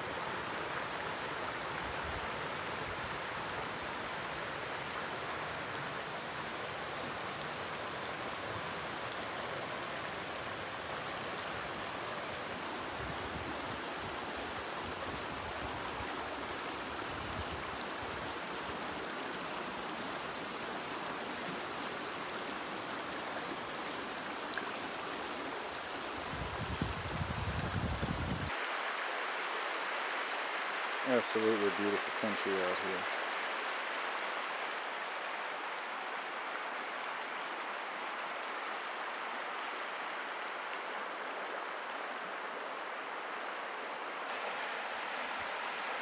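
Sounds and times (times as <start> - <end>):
stream running over rocks: 0.0 - 46.0.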